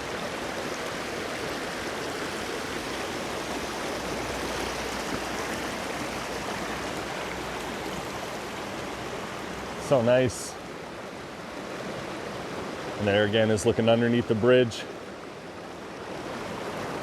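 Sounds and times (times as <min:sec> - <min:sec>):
creek water flowing over rocks: 0:00.0 - 0:17.0.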